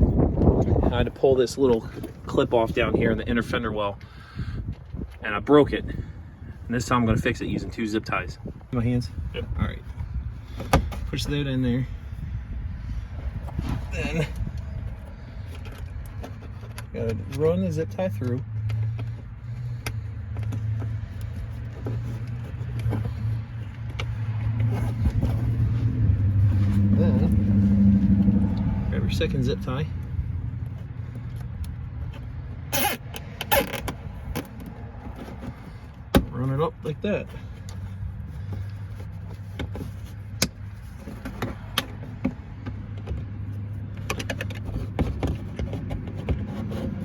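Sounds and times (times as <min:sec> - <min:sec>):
vehicle engine droning: 0:00.0 - 0:47.0.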